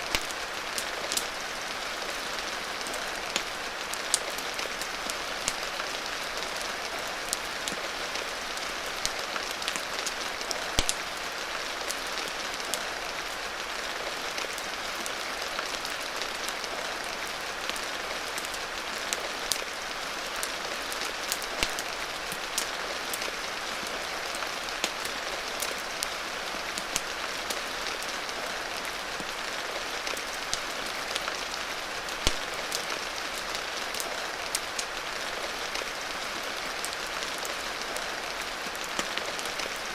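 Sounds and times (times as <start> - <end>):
wood fire crackling: 0.0 - 13.2, 14.4 - 23.4, 26.7 - 39.9.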